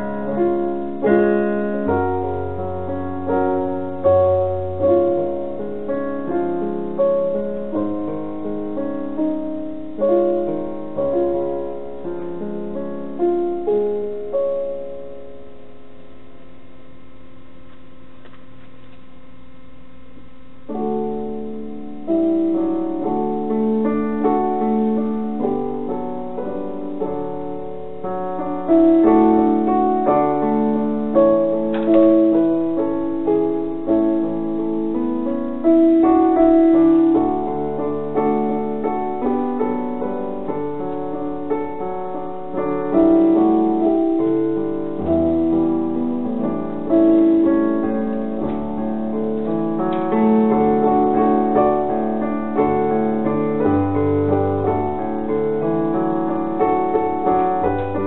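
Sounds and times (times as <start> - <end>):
piano playing: 0.0 - 18.1, 20.2 - 58.0.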